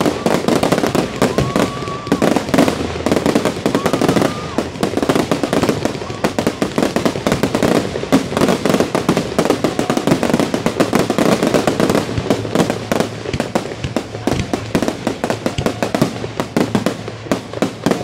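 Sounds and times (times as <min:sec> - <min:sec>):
crackling glitter fireworks: 0:00.0 - 0:18.0.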